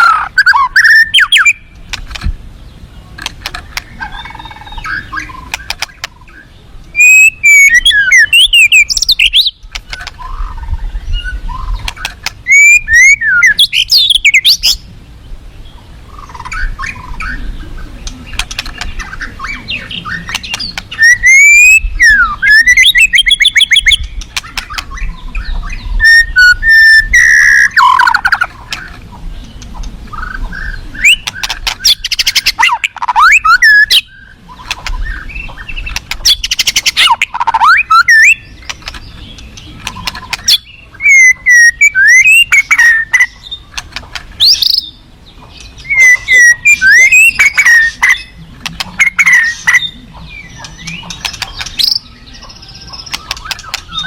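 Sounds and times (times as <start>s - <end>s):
bird whistling and trilling: 0.0s - 1.7s, 3.8s - 14.8s, 18.3s - 28.9s, 30.1s - 43.8s, 44.4s - 45.0s, 45.6s - 54.0s
low background rush: 0.0s - 54.0s.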